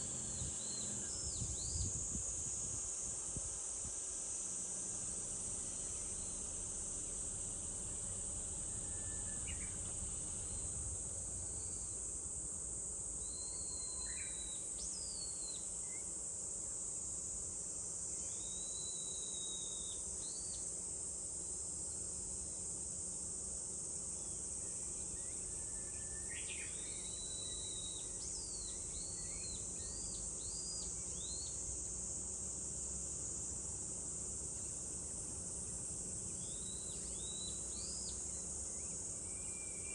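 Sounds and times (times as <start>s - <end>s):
cicadas chorus: 0.0s - 39.9s.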